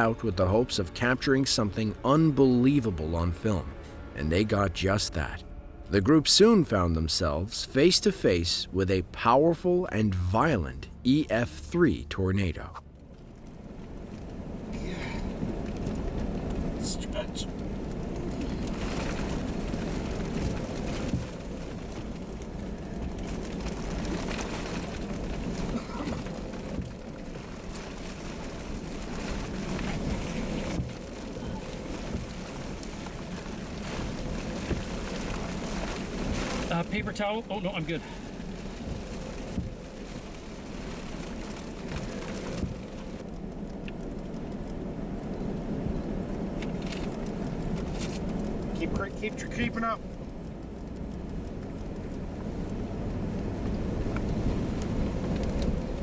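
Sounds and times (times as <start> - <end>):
car interior driving rumble: 0.0 - 56.0.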